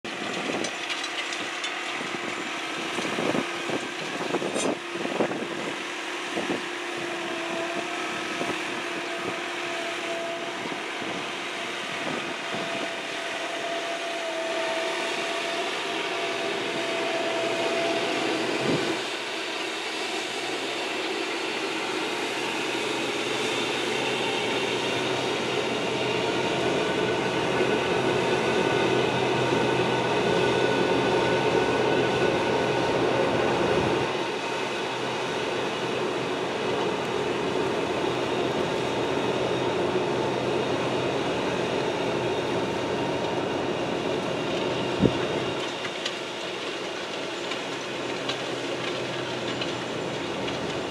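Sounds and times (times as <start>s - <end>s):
tractor engine drone: 0.0s - 50.9s
whining tones: 1.9s - 46.8s.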